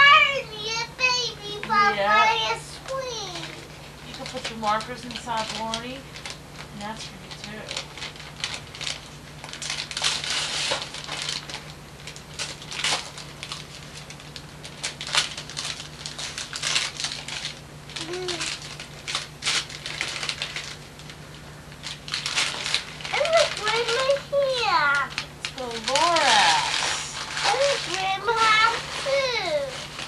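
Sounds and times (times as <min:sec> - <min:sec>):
steady low hum: 0:00.0 - 0:30.0
paper rustling and crinkling: 0:01.4 - 0:30.0.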